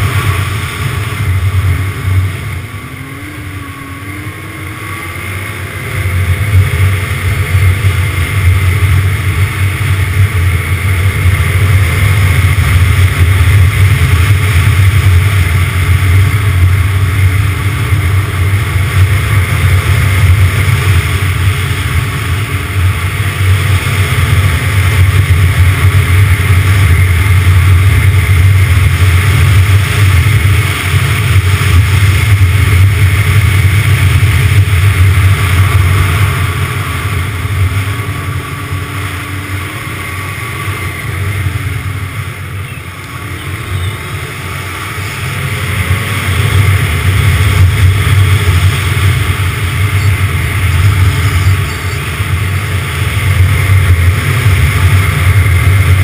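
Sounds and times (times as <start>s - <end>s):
snowmobile engine and track noise: 0.0s - 56.0s.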